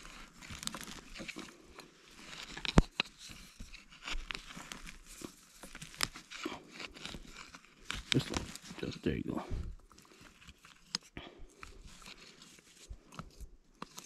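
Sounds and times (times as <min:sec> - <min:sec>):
tool scraping through pine needles: 0:00.0 - 0:14.0.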